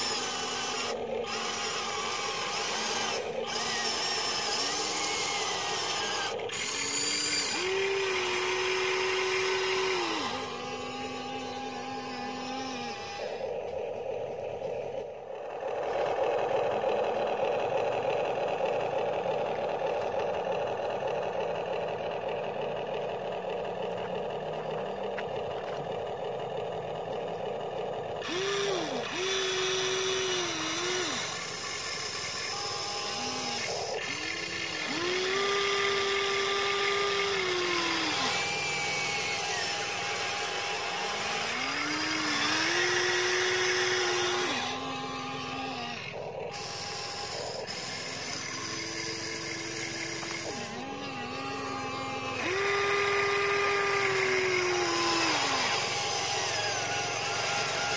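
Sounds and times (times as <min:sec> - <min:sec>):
toy excavator motors whirring: 0:00.0 - 0:57.9.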